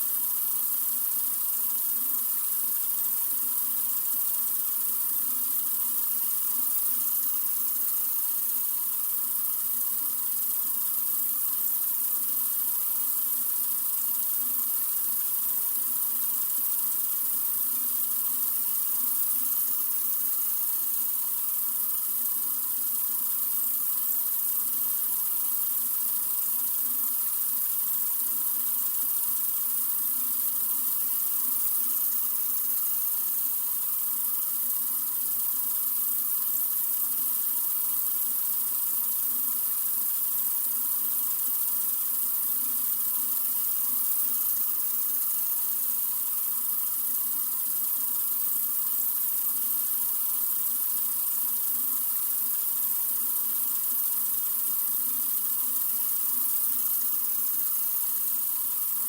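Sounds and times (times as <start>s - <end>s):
sink faucet running: 0.1s - 59.0s.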